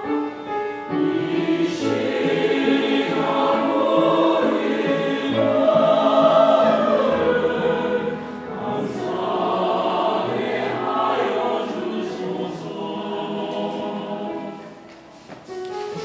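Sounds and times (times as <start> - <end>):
church choir singing a hymn: 0.0 - 15.4.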